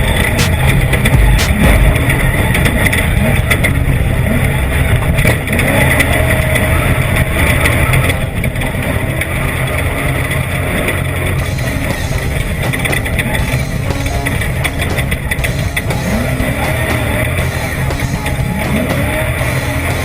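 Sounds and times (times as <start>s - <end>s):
engine running hard: 0.0s - 20.0s.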